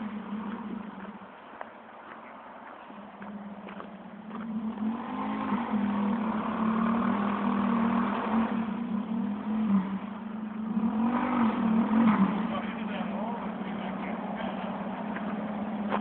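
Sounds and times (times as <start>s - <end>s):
trike engine approaching: 0.0s - 16.0s.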